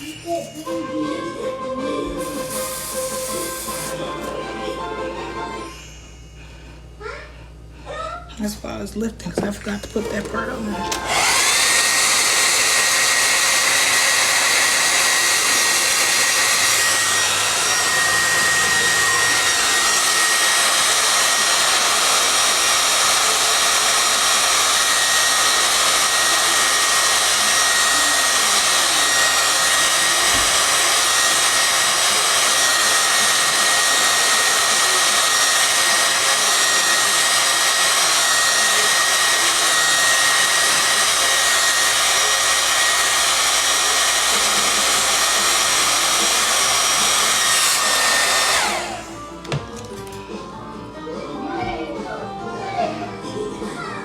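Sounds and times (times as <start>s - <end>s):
hair dryer blowing: 2.0s - 5.9s, 9.4s - 50.5s.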